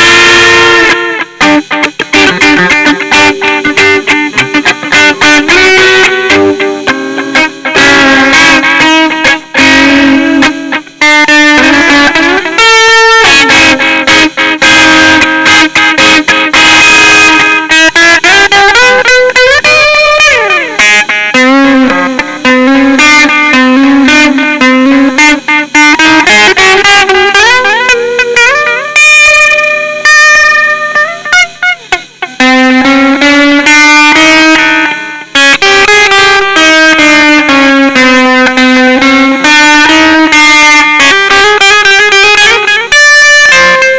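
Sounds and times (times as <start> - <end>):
electric guitar rock riff: 0.0 - 43.9.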